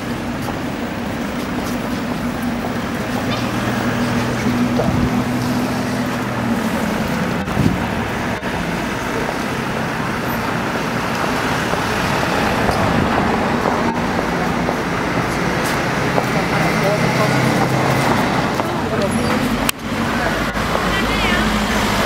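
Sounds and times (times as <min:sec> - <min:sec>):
car engine pulling away: 0:00.0 - 0:22.0
street traffic noise: 0:00.0 - 0:22.0.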